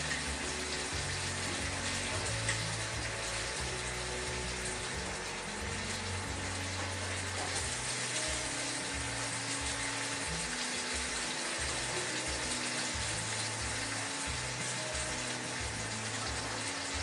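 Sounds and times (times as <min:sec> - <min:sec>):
background music: 0:00.0 - 0:17.0
meat sizzling in a wok: 0:00.0 - 0:17.0.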